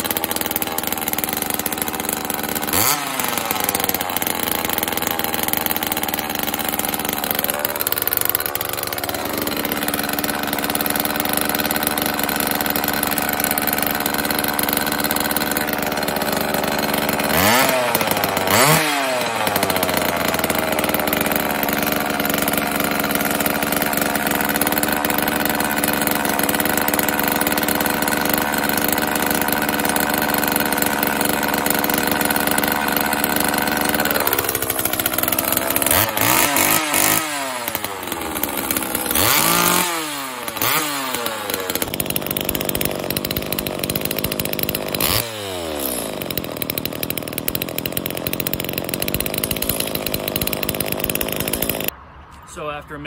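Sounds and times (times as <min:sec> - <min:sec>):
chainsaw engine revving: 0:00.0 - 0:52.0.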